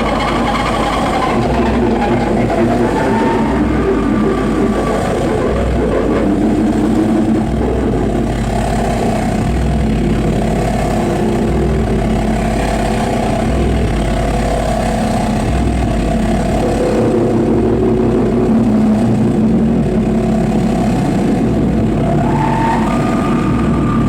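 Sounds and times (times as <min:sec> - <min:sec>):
harsh noise drone with low pulse: 0:00.0 - 0:24.0.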